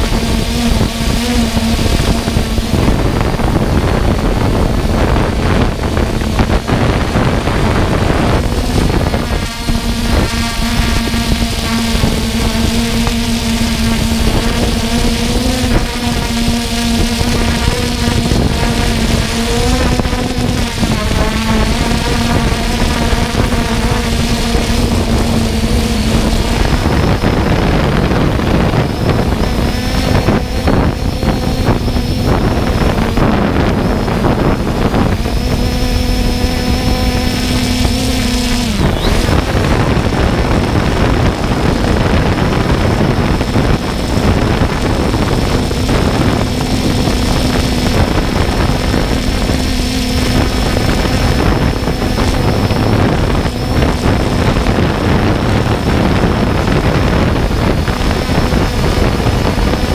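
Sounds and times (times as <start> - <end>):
drone propellers droning: 0.0 - 59.9
wind noise on microphone: 0.0 - 59.9.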